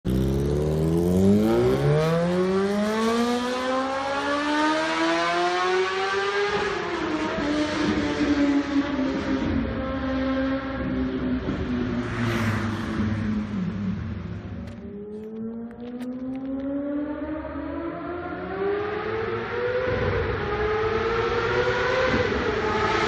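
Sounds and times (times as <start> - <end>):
engine accelerating: 0.1 - 23.0.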